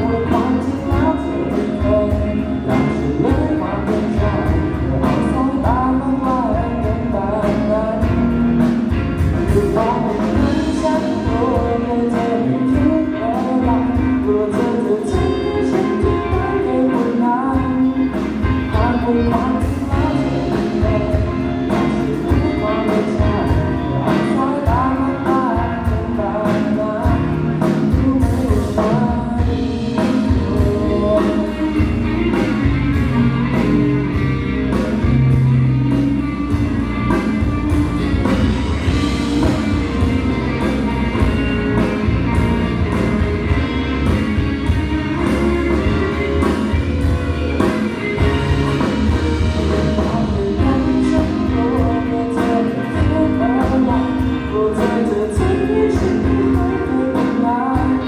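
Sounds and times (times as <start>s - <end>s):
pop song through loudspeakers: 0.0s - 58.0s.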